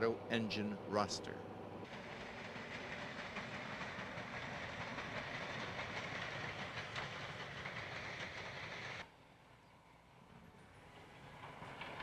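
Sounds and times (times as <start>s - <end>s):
locomotive rumbling along track: 0.0s - 12.0s.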